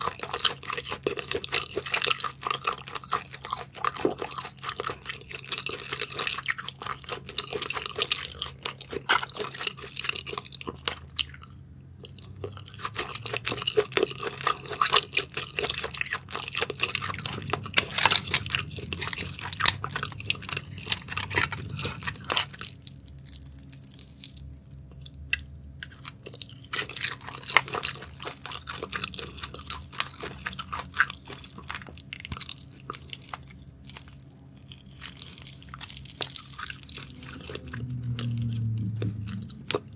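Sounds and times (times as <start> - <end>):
wet chewing with clicks: 0.0 - 39.9.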